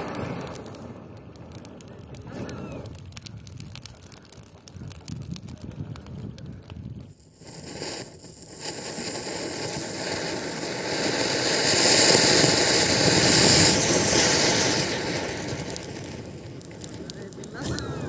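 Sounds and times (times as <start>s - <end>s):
firework fountain hissing: 0.0s - 4.1s, 7.1s - 18.0s.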